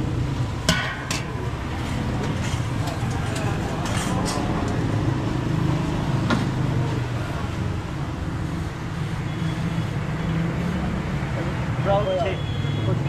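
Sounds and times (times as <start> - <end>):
road traffic noise: 0.0 - 13.0
vehicle engine humming: 0.0 - 13.0.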